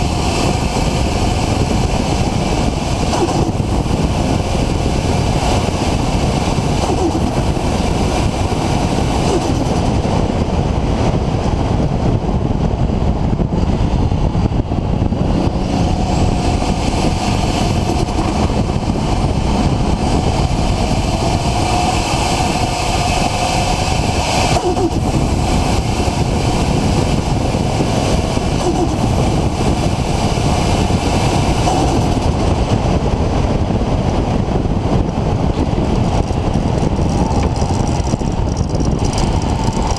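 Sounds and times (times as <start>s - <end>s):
turbocharged car engine running: 0.0s - 39.9s.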